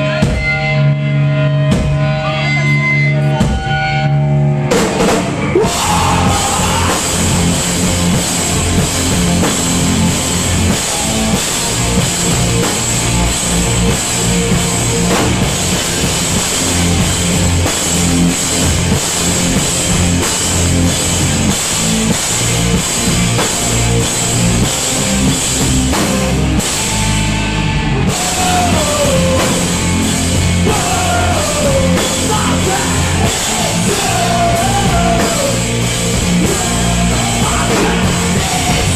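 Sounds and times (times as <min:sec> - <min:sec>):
bass guitar: 0:00.0 - 0:38.9
distorted electric guitars: 0:00.0 - 0:38.9
drum kit: 0:00.0 - 0:38.9.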